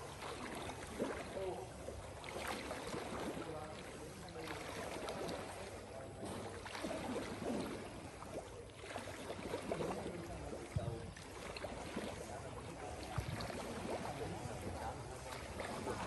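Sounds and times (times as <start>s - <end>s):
pool water splashing: 0.0s - 16.0s.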